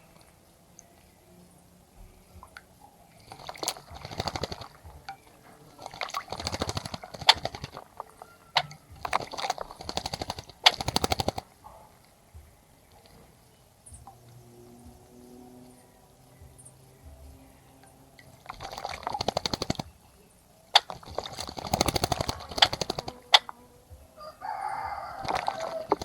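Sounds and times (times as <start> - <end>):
bird splashing in water: 2.4 - 16.3, 17.8 - 20.0, 20.6 - 26.0.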